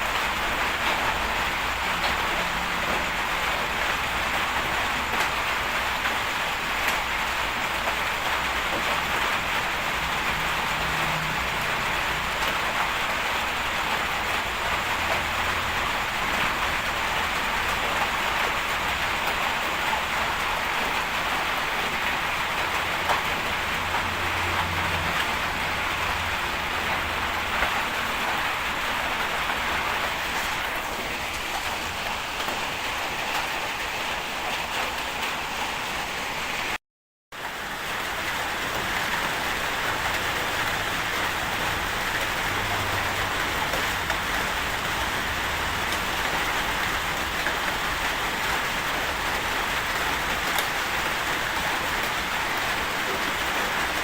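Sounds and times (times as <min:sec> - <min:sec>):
heavy rain hissing: 0:00.0 - 0:36.8, 0:37.4 - 0:54.0.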